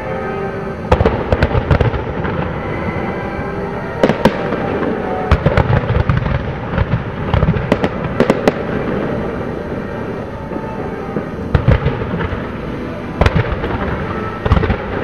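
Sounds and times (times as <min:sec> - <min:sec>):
fireworks bursting with sharp bangs: 0:00.0 - 0:15.0
music: 0:00.0 - 0:15.0.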